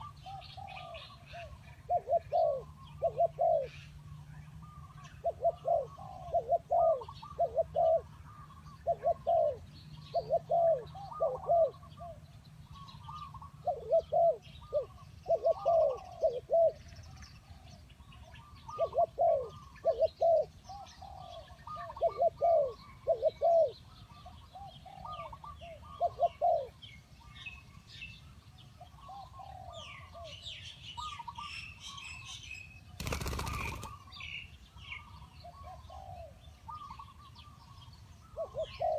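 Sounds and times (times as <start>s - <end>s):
doves cooing: 0.0s - 27.4s, 28.8s - 32.2s, 33.0s - 38.9s
small birds chirping: 0.0s - 38.9s.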